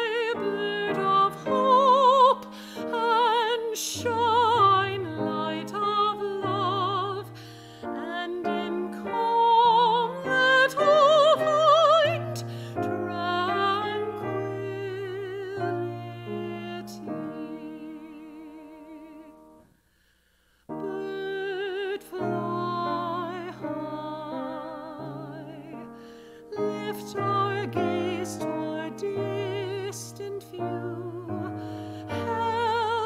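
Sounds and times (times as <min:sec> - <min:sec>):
slow gentle music with vibrato: 0:00.0 - 0:20.1, 0:20.7 - 0:33.0.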